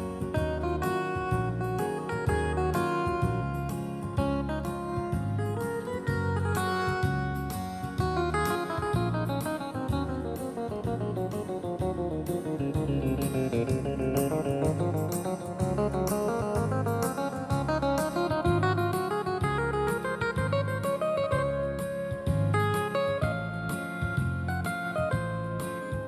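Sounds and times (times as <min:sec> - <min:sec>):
quick melody over steady beat: 0:00.0 - 0:26.0.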